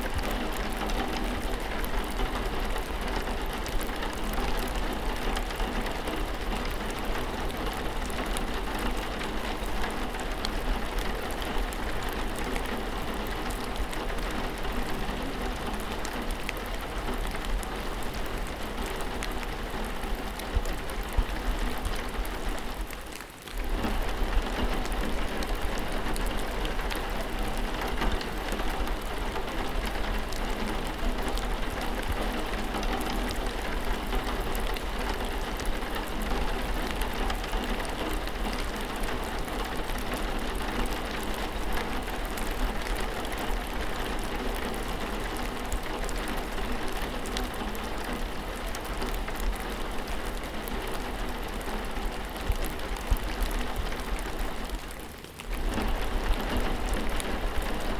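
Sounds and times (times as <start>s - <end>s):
rain falling steadily: 0.0s - 57.9s.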